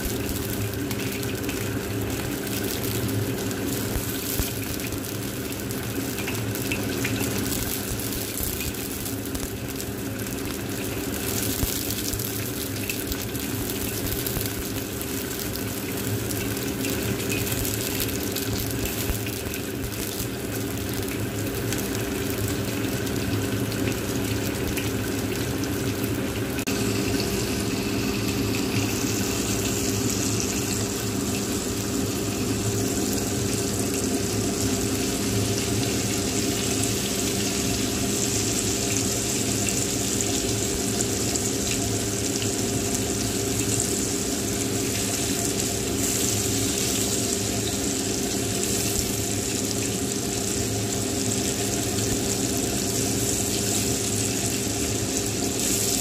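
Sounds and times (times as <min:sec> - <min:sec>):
deep-frying sizzle in oil: 0:00.0 - 0:56.0.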